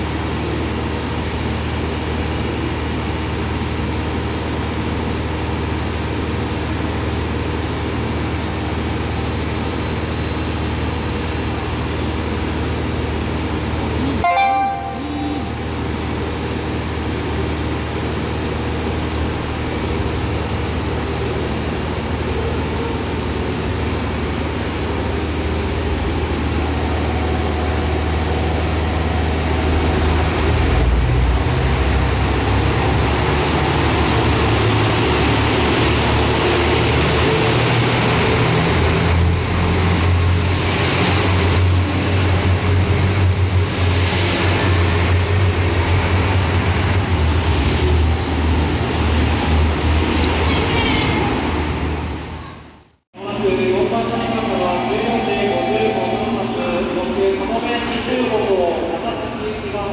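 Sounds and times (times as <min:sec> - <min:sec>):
diesel train engines humming: 0:00.0 - 0:59.9.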